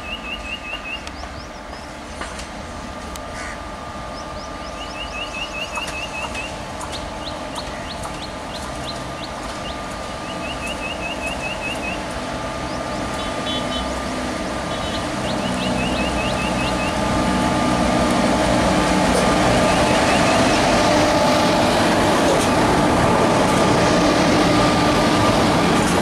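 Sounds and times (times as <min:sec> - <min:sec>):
train running with steady whine: 0:00.0 - 0:26.0.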